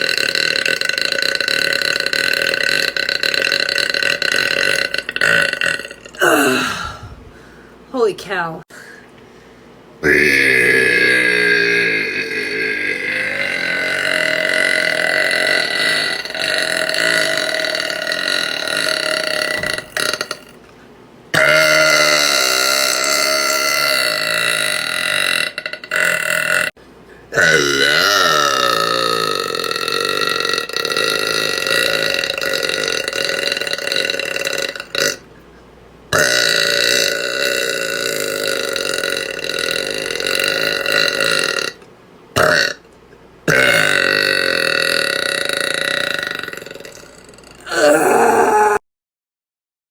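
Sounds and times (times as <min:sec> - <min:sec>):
woman belching: 0:00.0 - 0:07.2, 0:10.0 - 0:20.6, 0:21.4 - 0:26.7, 0:27.3 - 0:35.2, 0:36.1 - 0:41.8, 0:42.4 - 0:42.8, 0:43.5 - 0:48.8.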